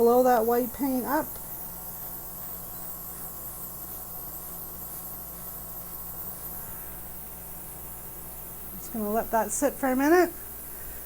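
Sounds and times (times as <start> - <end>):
airbrush compressor hum and hiss: 0.0 - 11.0.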